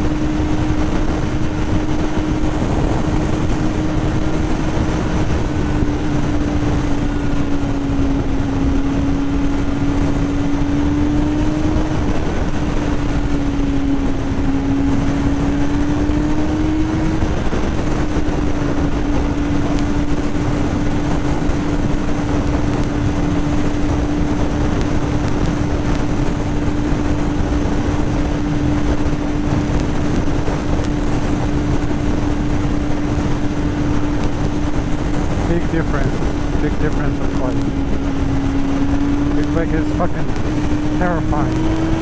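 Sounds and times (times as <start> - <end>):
heavy wind: 0.0 - 42.0
motorcycle engine cruising: 0.0 - 42.0
road rush: 0.0 - 42.0.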